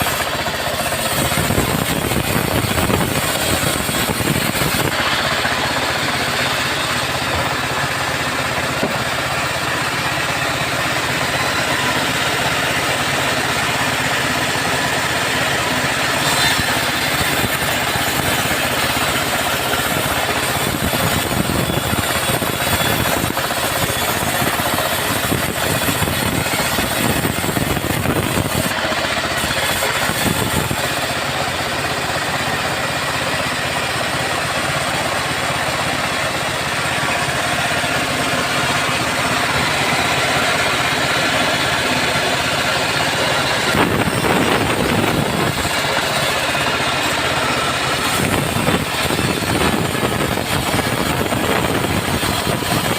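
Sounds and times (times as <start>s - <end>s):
chainsaw sawing logs: 0.0s - 52.9s.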